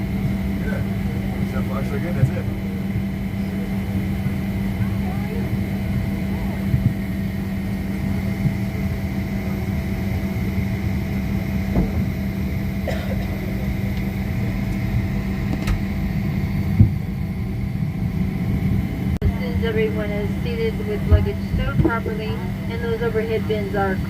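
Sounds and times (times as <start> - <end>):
airliner cabin drone: 0.0 - 24.0.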